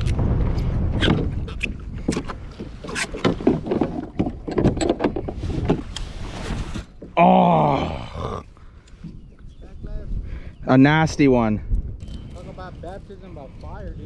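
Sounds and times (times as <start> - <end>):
wind buffeting microphone: 0.0 - 7.0, 7.9 - 14.0.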